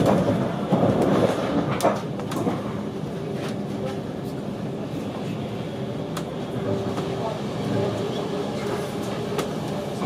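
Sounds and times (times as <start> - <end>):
train rolling rumble: 0.0 - 10.0.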